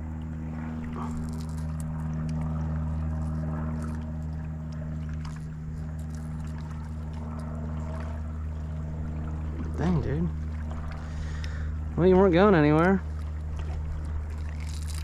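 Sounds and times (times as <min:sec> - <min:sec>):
light water splashing: 0:00.0 - 0:15.0
small electric motor humming: 0:00.0 - 0:15.0.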